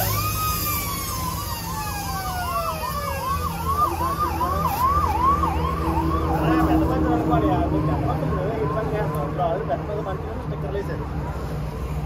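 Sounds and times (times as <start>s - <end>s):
electronic siren wailing and warbling: 0.0s - 9.7s.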